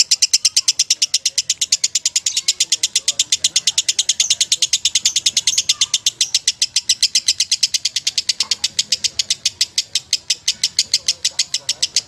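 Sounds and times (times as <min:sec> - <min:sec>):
lovebird rapid high chirps: 0:00.0 - 0:12.0.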